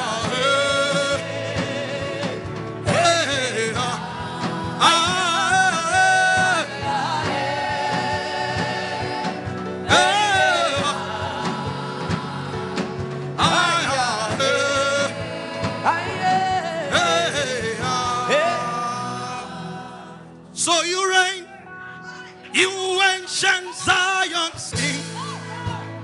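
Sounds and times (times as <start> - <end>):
person singing gospel: 0.0 - 26.0
sustained instrumental accompaniment: 0.0 - 26.0.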